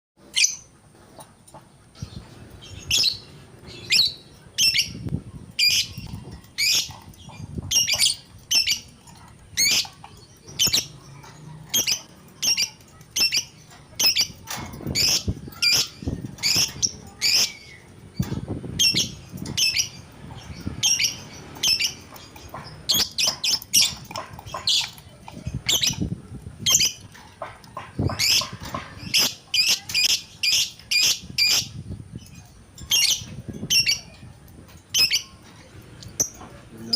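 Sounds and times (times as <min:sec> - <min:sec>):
lovebird chirps and squawks: 0:02.0 - 0:34.2.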